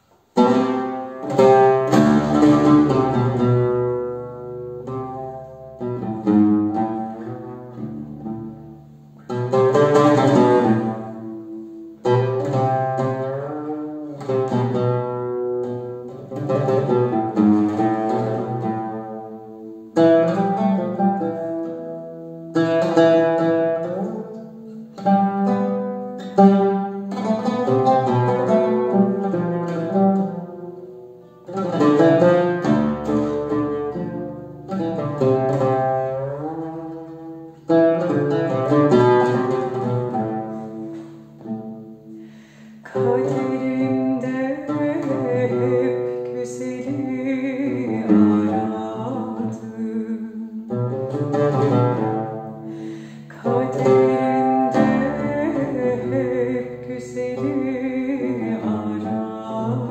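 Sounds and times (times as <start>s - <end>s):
solo oud playing: 0.0s - 59.9s.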